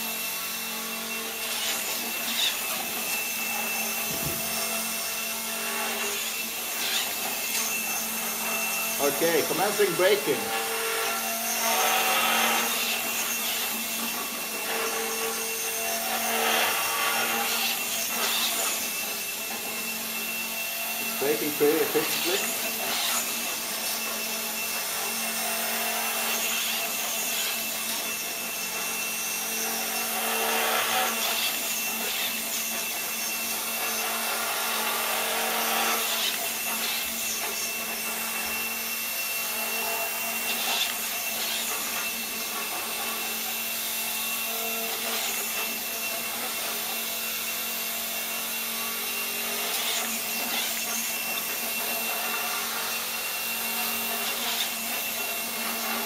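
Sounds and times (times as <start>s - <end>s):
gyroscope motors whining and humming: 0.0s - 56.0s.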